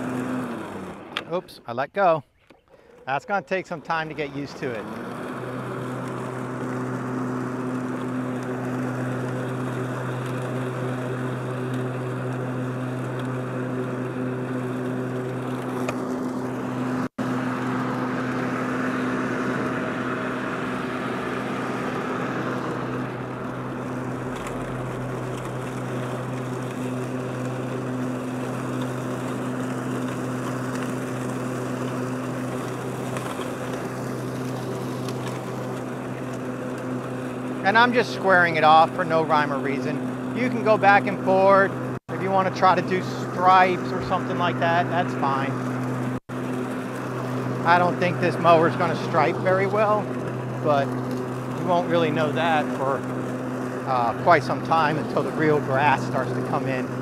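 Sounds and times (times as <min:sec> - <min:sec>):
electric lawn mower humming: 0:00.0 - 0:01.8, 0:02.5 - 0:57.0.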